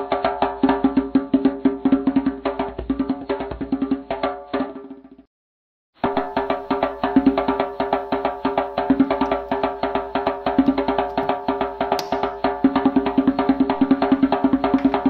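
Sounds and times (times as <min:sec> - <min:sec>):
music with wood-block beat: 0:00.0 - 0:05.1, 0:06.0 - 0:15.0.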